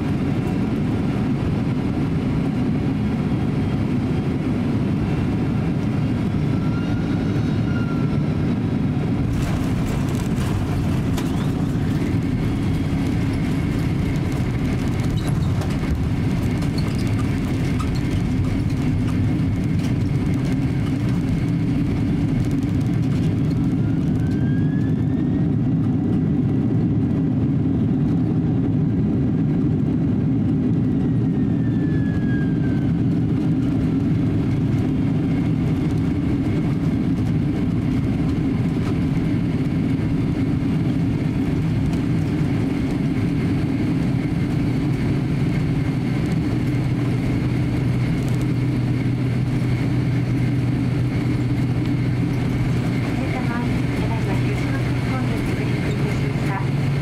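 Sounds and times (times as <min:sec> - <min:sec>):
jet engines idling rumble: 0:00.0 - 0:57.0
low hum: 0:00.0 - 0:57.0.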